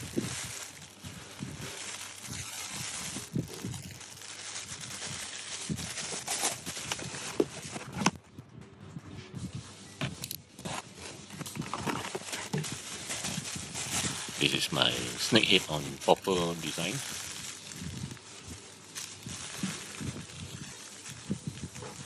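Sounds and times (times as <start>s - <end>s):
plastic wrap rustling: 0.0s - 8.3s, 9.3s - 22.0s.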